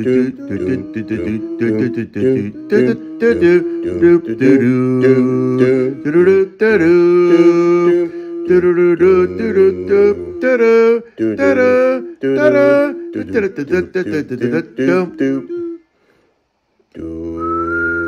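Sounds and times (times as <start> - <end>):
higher voice chanting: 0.0 - 15.8
low voice chanting: 0.0 - 15.9, 16.9 - 18.0.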